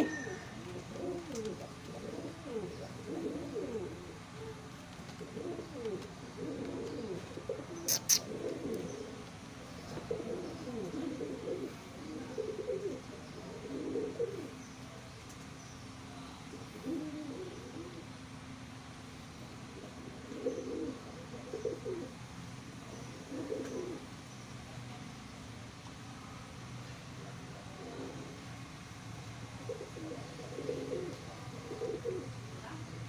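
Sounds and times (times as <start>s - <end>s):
pigeons cooing: 0.0s - 25.5s, 26.3s - 33.0s.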